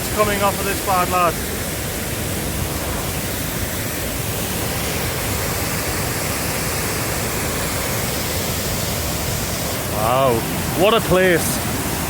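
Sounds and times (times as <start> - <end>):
waterfall thundering: 0.0 - 12.0.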